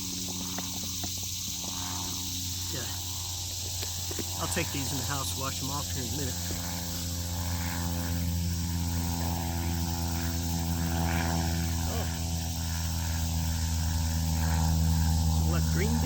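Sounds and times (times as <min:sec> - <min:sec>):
high insect trill: 0:00.0 - 0:16.0
low motor hum: 0:00.0 - 0:16.0.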